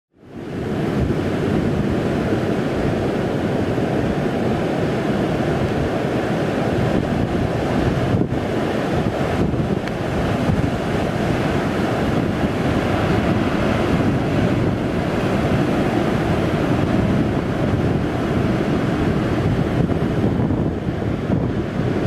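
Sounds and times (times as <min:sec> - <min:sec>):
ocean surf breaking on rocks: 0:00.2 - 0:22.0
wind buffeting microphone: 0:00.3 - 0:22.0.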